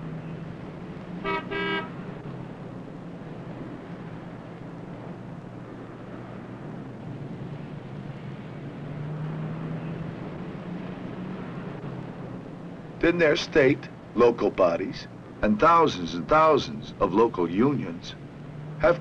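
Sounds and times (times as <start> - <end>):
low engine drone: 0.0 - 19.0
street traffic rumble: 0.0 - 19.0.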